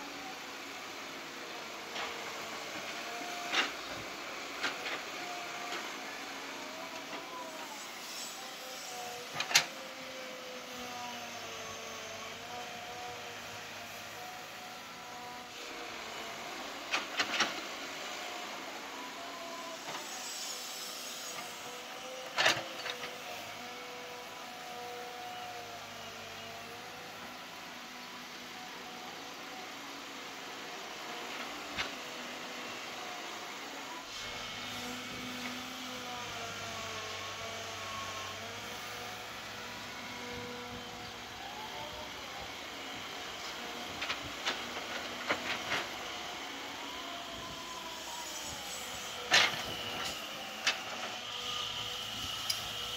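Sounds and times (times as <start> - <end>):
excavator engine and hydraulics whine: 0.0 - 52.9.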